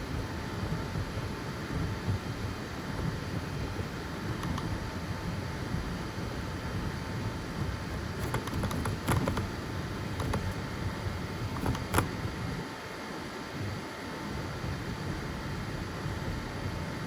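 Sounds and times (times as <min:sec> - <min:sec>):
printer fans and motors humming: 0:00.0 - 0:17.0.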